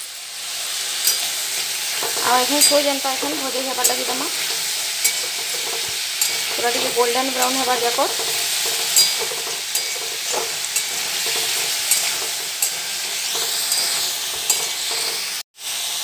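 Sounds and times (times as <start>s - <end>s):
pumpkin sizzling in oil: 0.0s - 16.0s
spatula clicking and scraping pan: 1.0s - 15.4s.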